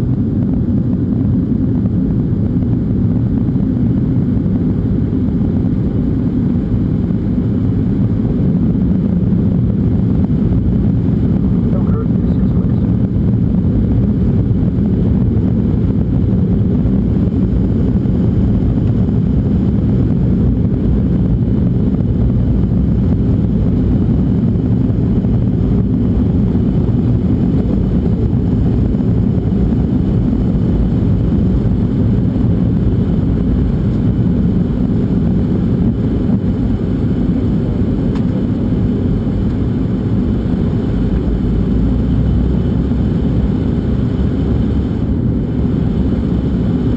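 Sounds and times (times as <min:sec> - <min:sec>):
jet engines rumbling inside cabin: 0:00.0 - 0:46.9.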